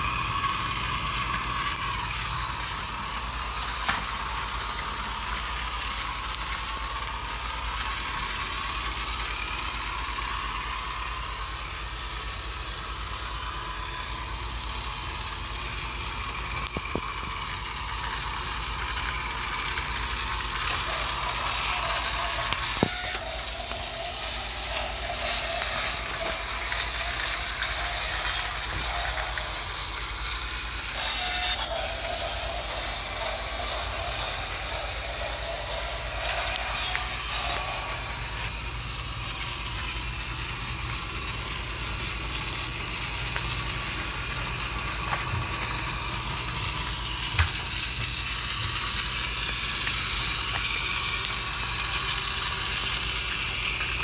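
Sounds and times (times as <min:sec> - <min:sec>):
toy train motor whirring: 0:00.0 - 0:54.0.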